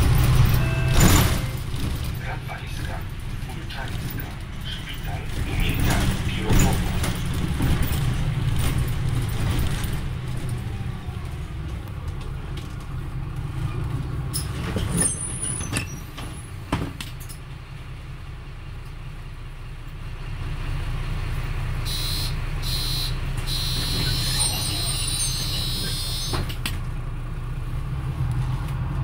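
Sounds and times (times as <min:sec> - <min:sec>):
bus engine idling and revving: 0:00.0 - 0:29.0.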